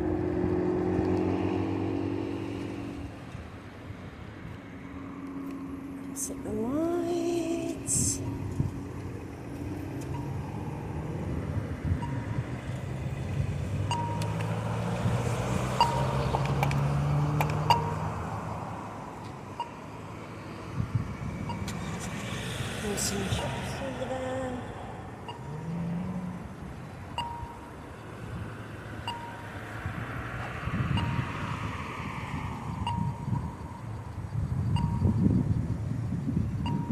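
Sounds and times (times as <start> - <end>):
traffic engine hum: 0.0 - 36.9
wind and tyres rumbling: 0.0 - 36.9.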